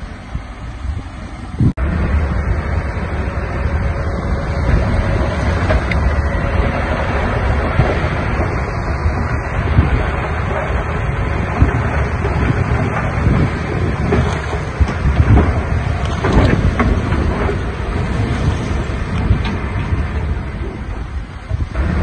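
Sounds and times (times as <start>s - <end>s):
heavy machinery diesel engine: 0.0s - 22.0s
wind buffeting microphone: 0.0s - 22.0s.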